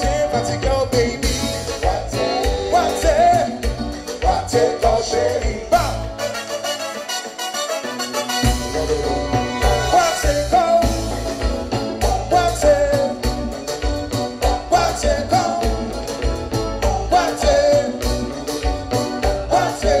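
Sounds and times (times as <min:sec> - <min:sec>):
man singing: 0:00.0 - 0:06.4, 0:09.0 - 0:13.8, 0:14.4 - 0:18.6, 0:19.2 - 0:20.0
live band playing: 0:00.0 - 0:20.0.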